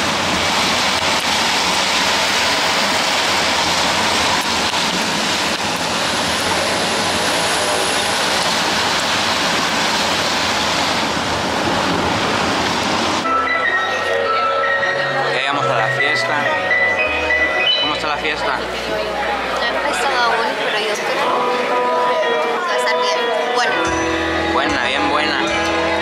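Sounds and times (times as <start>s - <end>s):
road noise: 0.0s - 26.0s.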